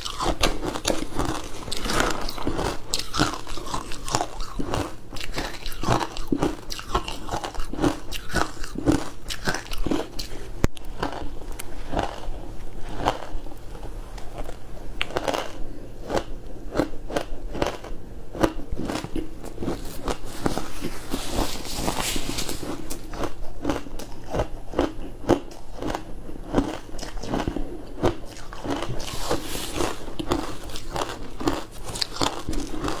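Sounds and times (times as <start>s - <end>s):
crunchy chewing of frozen food: 0.0s - 33.0s.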